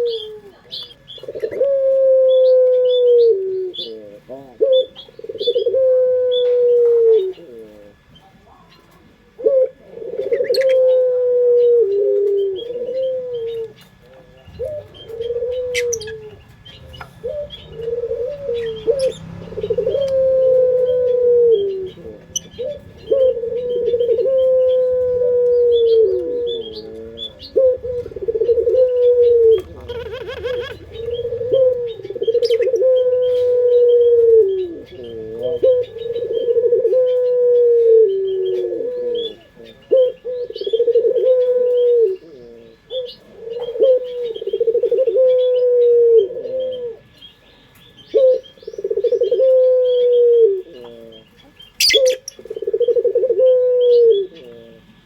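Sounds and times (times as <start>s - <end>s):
dove cooing: 0.0s - 55.0s
small birds chirping: 0.0s - 55.0s.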